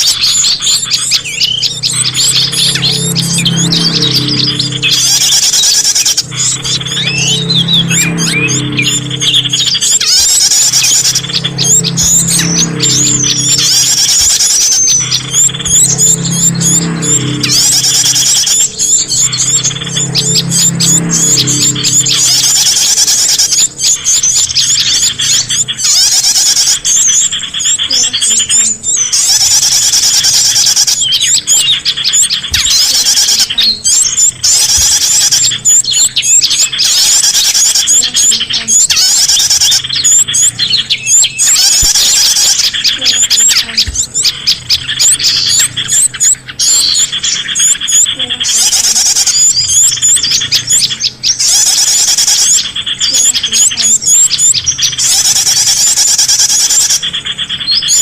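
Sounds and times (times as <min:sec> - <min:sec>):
songbirds chirping and twittering: 0:00.0 - 0:58.0.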